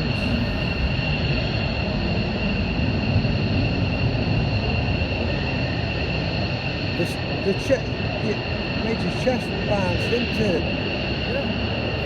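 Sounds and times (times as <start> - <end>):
fighter jet rumble with whine: 0.0 - 12.0.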